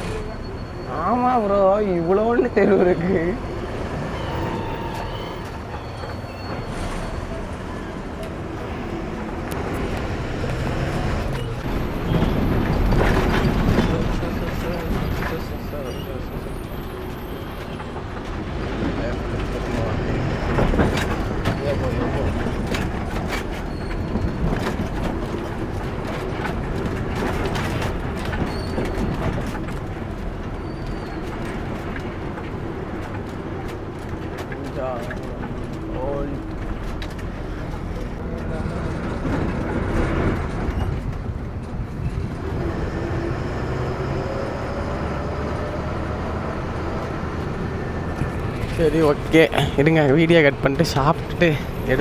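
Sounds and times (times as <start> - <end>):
truck engine and road rumble: 0.0 - 52.0
rattles and knocks: 8.2 - 52.0.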